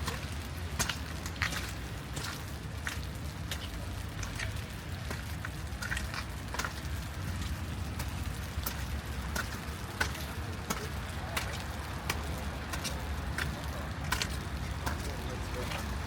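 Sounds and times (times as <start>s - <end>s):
distant traffic rumble: 0.0s - 16.0s
rain drips and taps: 0.0s - 16.0s.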